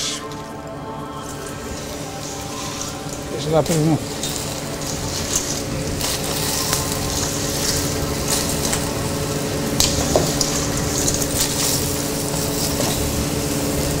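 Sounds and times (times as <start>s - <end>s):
sizzling and crackling in frying pan: 0.0s - 14.0s.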